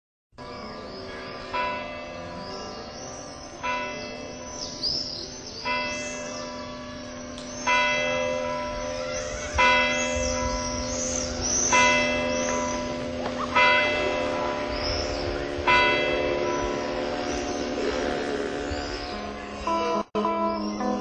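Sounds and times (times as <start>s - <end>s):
church bell tolling: 0.4s - 21.0s.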